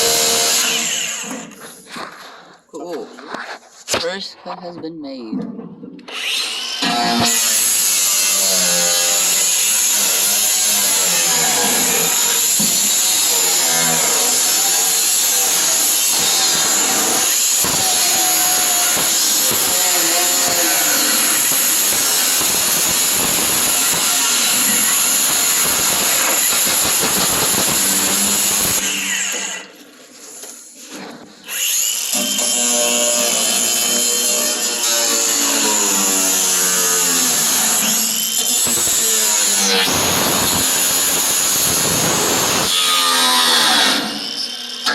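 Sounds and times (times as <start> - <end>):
angle grinder cutting steel: 0.0 - 1.7, 6.1 - 29.7, 31.5 - 44.9.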